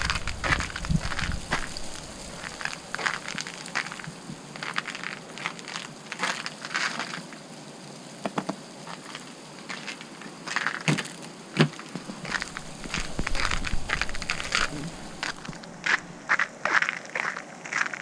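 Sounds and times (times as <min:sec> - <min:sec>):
ice crunching and cracking: 0:00.0 - 0:07.5, 0:08.2 - 0:18.0.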